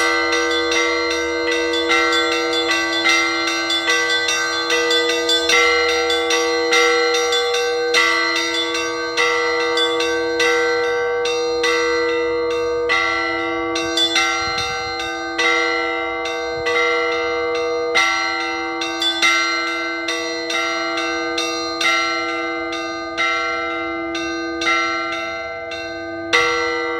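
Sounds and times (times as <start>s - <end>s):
church bells ringing a peal: 0.0s - 26.9s.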